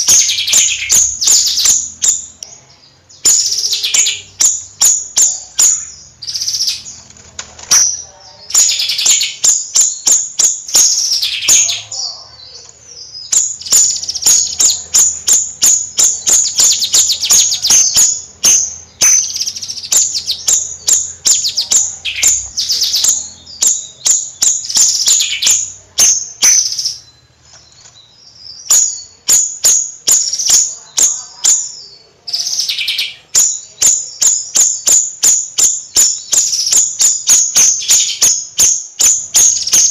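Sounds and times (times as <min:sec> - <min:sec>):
songbird chattering: 0:00.0 - 0:39.9.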